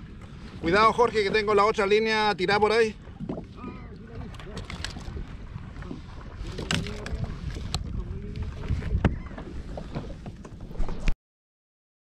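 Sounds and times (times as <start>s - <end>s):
wind on microphone: 0.0s - 11.1s
sea noise: 0.0s - 11.2s.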